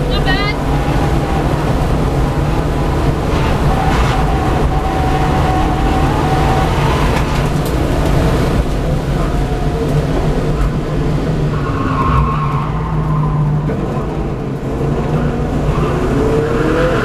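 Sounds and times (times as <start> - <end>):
race car engine at high speed: 0.0 - 17.0
road and wind noise: 0.0 - 17.0.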